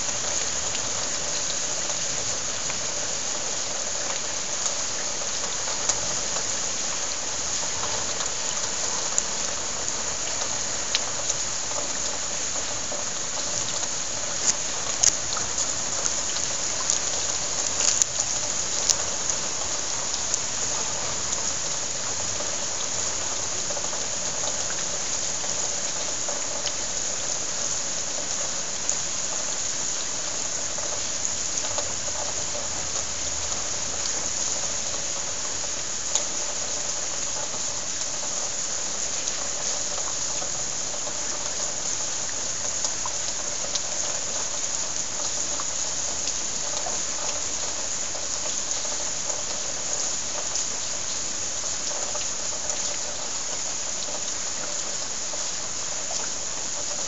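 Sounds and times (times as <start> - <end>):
heavy rain hissing: 0.0 - 57.0
raindrops ticking nearby: 0.0 - 57.0.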